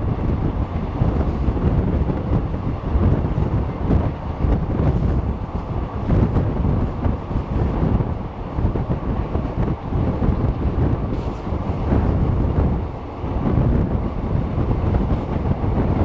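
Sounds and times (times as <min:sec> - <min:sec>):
train wheels rumbling on track: 0:00.0 - 0:16.0
wind buffeting microphone: 0:00.0 - 0:16.0.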